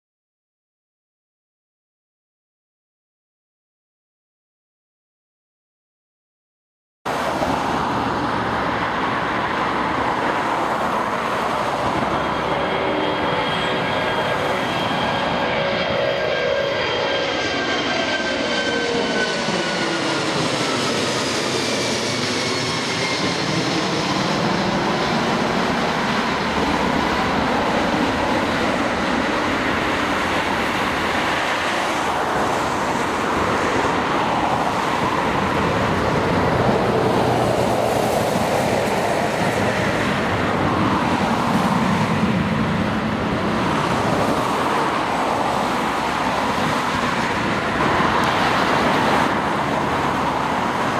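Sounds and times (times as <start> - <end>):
jet airliner passing by: 7.1 - 50.9.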